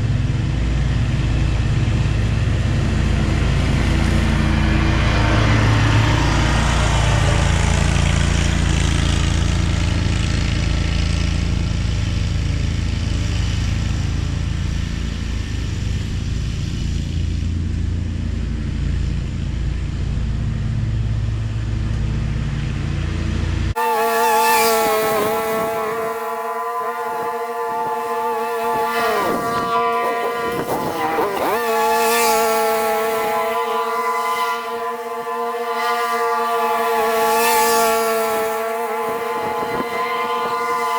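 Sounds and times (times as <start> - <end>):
mower engine running: 0.0 - 40.9
small engine whine: 0.0 - 40.9.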